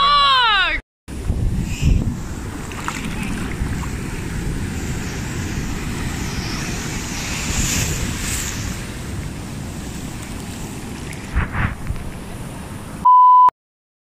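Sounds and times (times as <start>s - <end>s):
sea surf washing: 1.1s - 13.0s
wind buffeting microphone: 1.1s - 13.0s.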